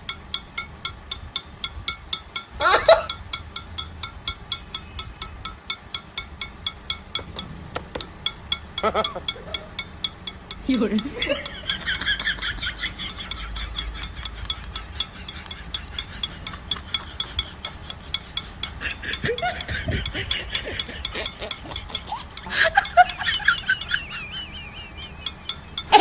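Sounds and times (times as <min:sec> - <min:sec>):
mechanism clicking rapidly: 0:00.0 - 0:24.0
squeaky wavering tones: 0:00.0 - 0:26.0.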